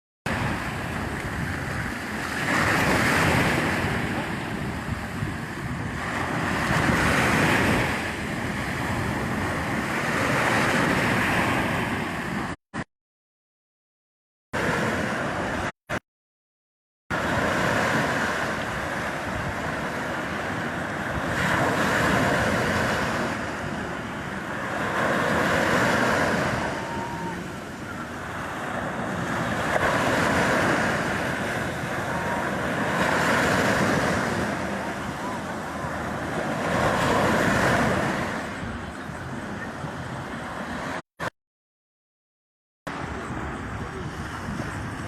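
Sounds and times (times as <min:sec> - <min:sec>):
sea waves breaking: 0:00.3 - 0:12.6, 0:14.6 - 0:15.8, 0:17.2 - 0:41.1.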